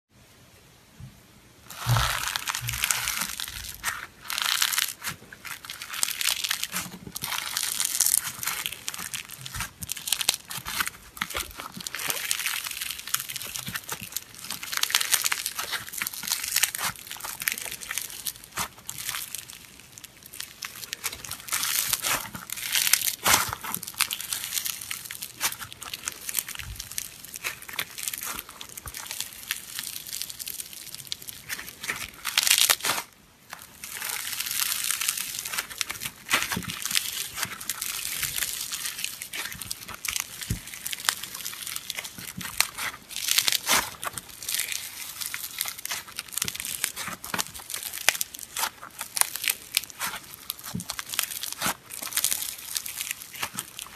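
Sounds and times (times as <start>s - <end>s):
slime crackling and crunching: 1.6s - 53.9s.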